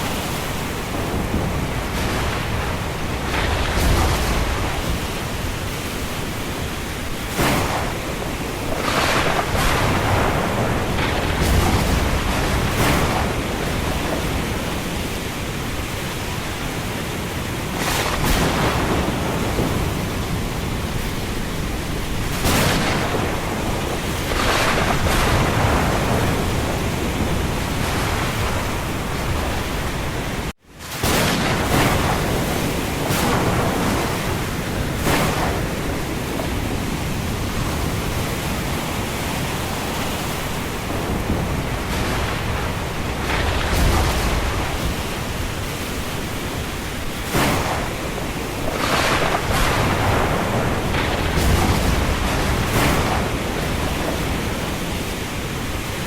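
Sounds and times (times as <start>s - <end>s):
storm wind and rain: 0.0s - 56.0s.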